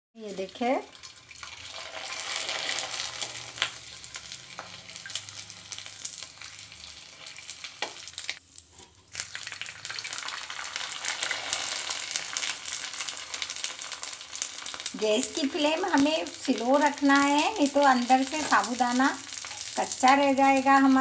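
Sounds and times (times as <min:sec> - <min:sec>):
food frying in hot oil: 0:00.2 - 0:21.0.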